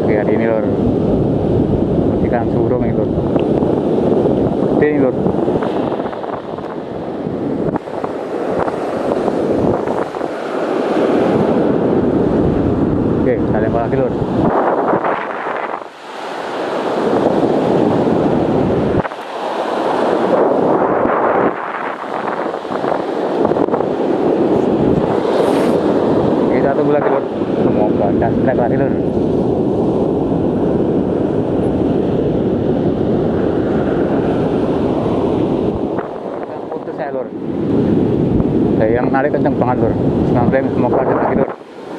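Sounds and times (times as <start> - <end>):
ocean surf breaking: 0.0 - 41.9
wind buffeting microphone: 0.0 - 41.9.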